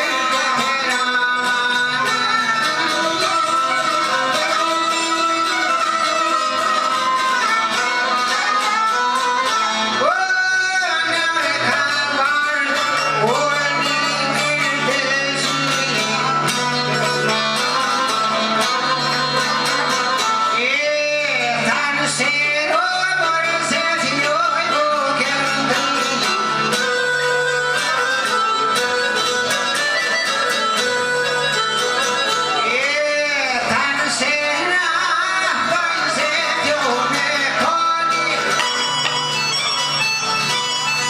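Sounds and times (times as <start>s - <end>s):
fiddle playing: 0.0s - 21.2s, 22.8s - 33.6s, 34.5s - 41.0s
plucked string instruments: 0.0s - 41.0s.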